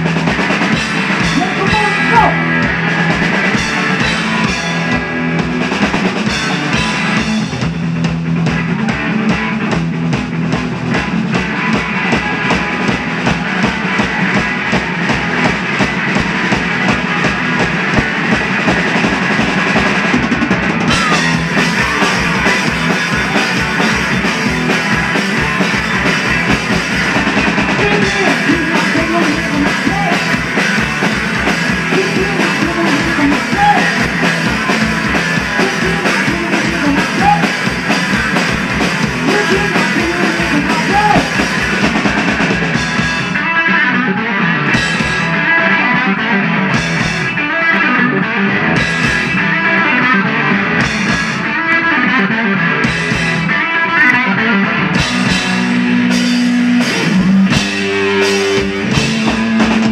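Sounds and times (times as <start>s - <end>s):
pounding drum kit: 0.0s - 43.8s, 44.6s - 47.5s, 48.6s - 51.6s, 52.7s - 53.6s, 54.6s - 59.9s
distorted electric guitar: 0.0s - 59.9s.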